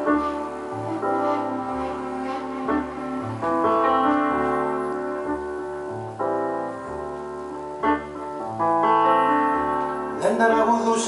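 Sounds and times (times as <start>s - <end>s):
piano music through loudspeaker: 0.0s - 11.0s.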